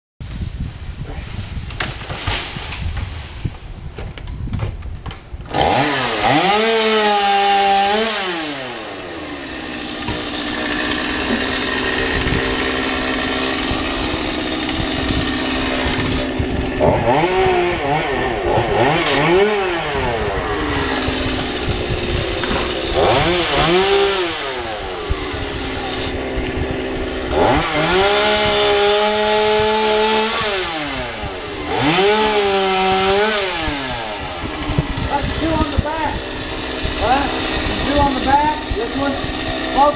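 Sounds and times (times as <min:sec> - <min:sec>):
chainsaw revving and idling: 0:05.5 - 0:39.9.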